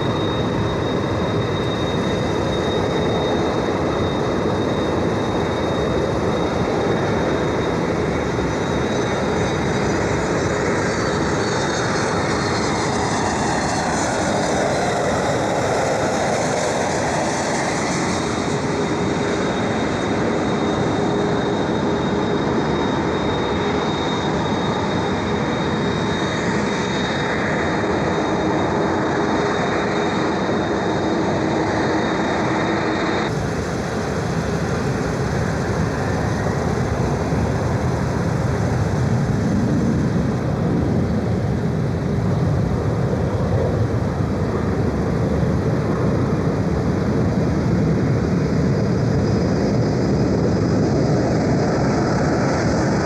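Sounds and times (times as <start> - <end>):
jet engines whining and rumbling: 0.0 - 53.0.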